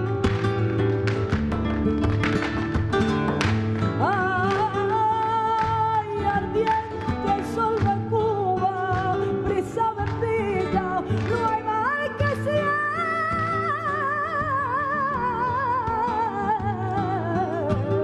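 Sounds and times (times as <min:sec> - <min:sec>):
flamenco accompaniment: 0:00.0 - 0:18.0.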